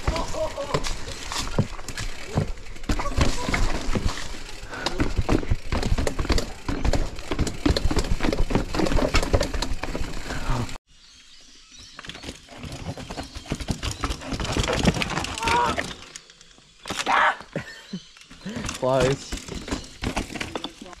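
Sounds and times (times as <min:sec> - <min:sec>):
mountain bike clattering on trail: 0:00.0 - 0:10.8, 0:11.8 - 0:17.2, 0:18.0 - 0:21.0.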